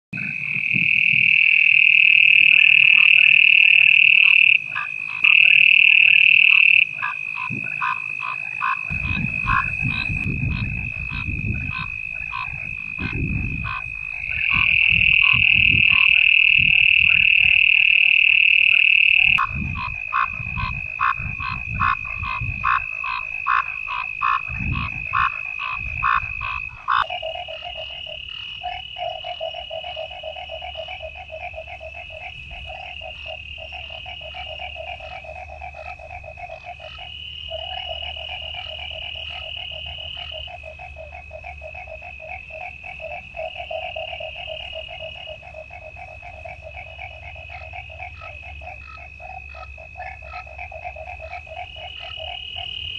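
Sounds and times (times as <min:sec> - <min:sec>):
crickets trilling: 0:00.2 - 0:52.9
frogs calling: 0:00.2 - 0:52.9.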